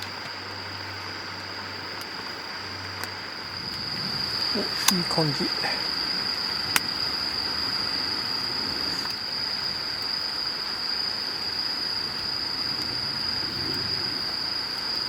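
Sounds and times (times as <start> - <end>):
background hiss: 0.0 - 15.0
crickets trilling: 0.0 - 15.0.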